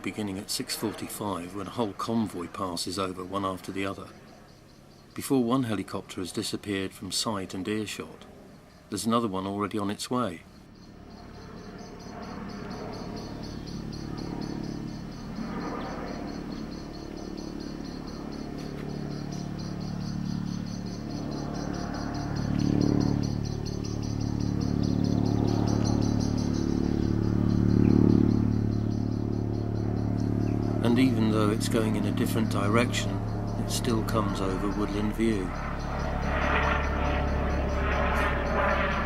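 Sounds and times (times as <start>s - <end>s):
insects chirping: 0.0s - 6.0s, 10.5s - 39.0s
helicopter engine and rotor drone: 0.0s - 9.0s, 10.5s - 39.0s.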